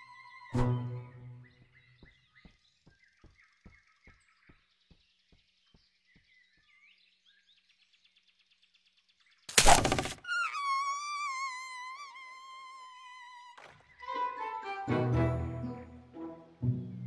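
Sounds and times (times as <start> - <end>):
faint bird chirps: 0.0 - 14.2.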